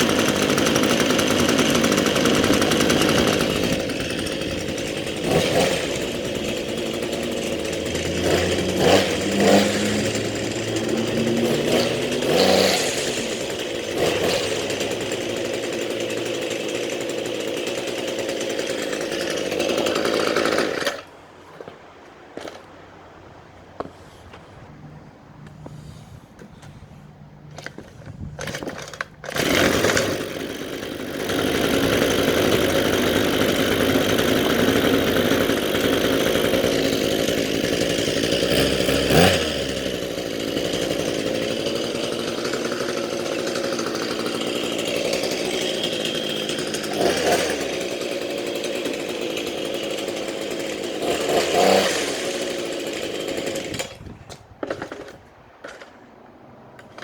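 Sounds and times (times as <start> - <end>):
two-stroke engine running: 0.0 - 21.1, 27.2 - 55.2.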